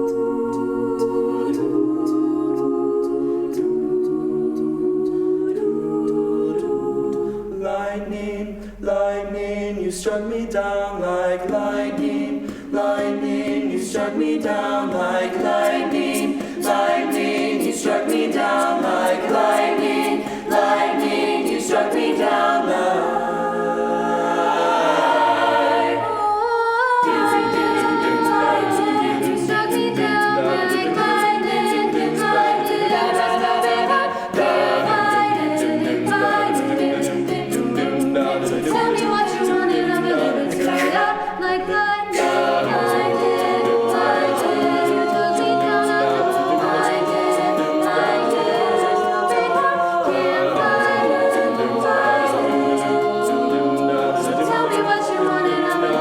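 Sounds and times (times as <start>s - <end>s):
vocal group singing harmonies: 0.0s - 56.0s.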